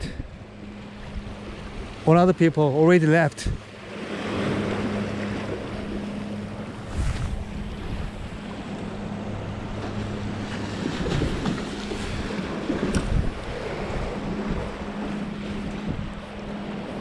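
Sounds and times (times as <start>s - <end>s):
wind buffeting microphone: 0.0s - 2.1s, 3.4s - 17.0s
low steady hum: 0.0s - 17.0s
waves splashing against rocks: 2.0s - 16.0s.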